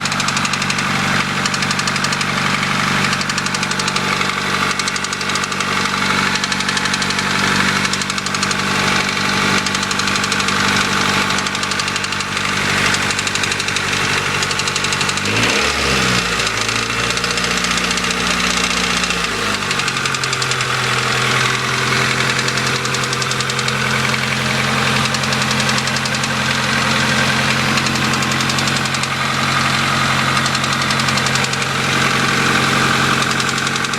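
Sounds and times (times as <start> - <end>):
car engine idling with knocking: 0.0 - 33.9.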